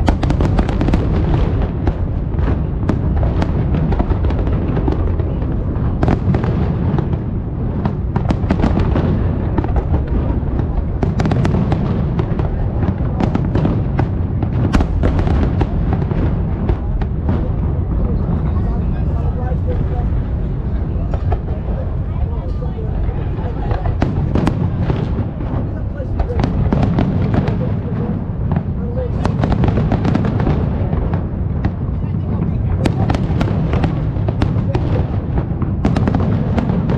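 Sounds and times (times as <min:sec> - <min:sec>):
fireworks bursting and crackling: 0:00.0 - 0:36.9.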